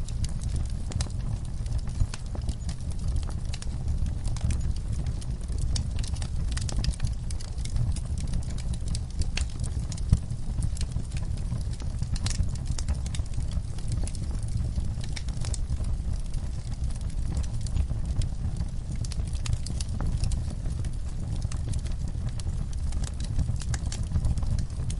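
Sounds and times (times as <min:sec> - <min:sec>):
low rumble of flames: 0:00.0 - 0:24.9
wood fire crackling: 0:00.0 - 0:24.9.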